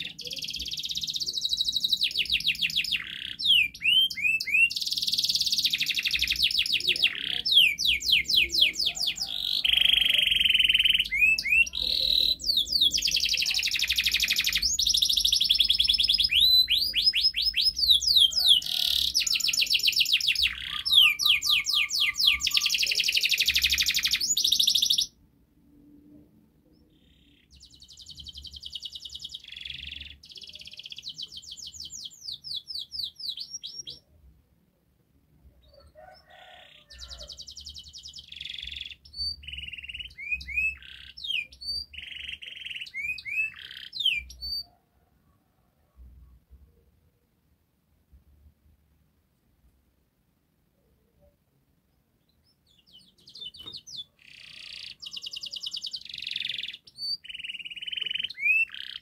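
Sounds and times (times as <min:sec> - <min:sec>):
canary singing: 0:00.0 - 0:25.2, 0:26.7 - 0:34.1, 0:35.6 - 0:44.8, 0:51.9 - 0:59.0.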